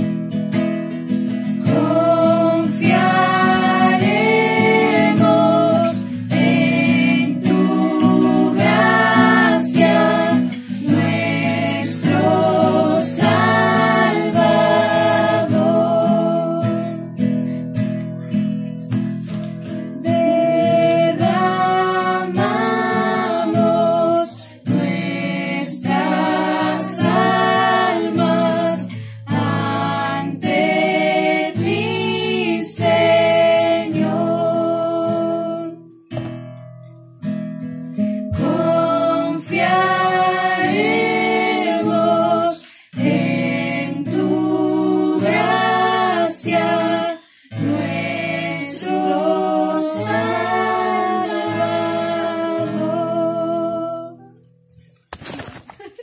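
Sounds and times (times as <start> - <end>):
acoustic guitar: 0.0 - 56.0
person singing worship song: 1.3 - 17.3, 18.8 - 35.9, 37.9 - 54.3.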